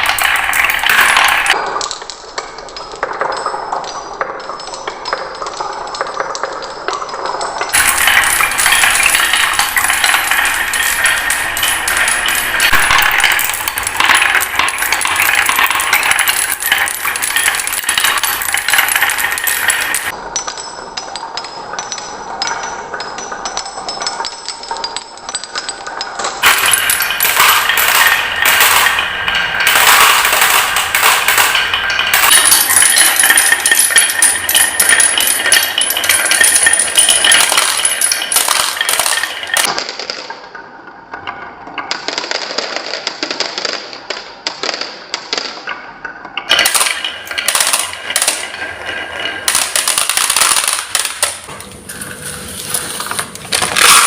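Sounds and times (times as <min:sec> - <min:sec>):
marbles rolling and clacking: 0:00.0 - 0:54.0.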